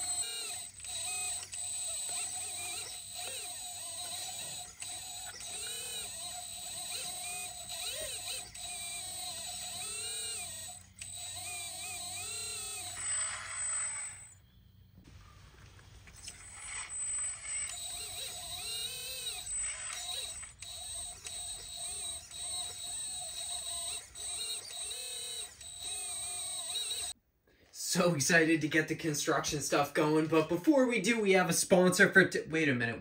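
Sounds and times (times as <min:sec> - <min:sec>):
steady high hum: 0:00.0 - 0:27.1
hydraulic pump and motors whining: 0:00.0 - 0:27.2.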